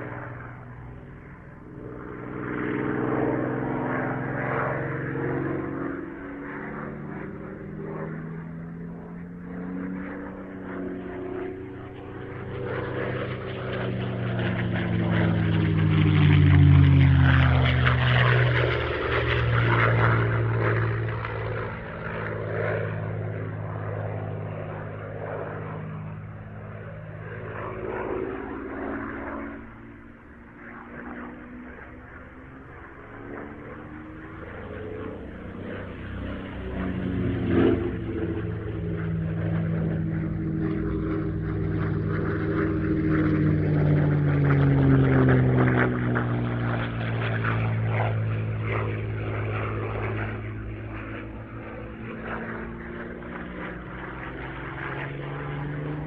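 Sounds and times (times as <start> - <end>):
propeller aircraft engine drone: 0.0 - 56.0.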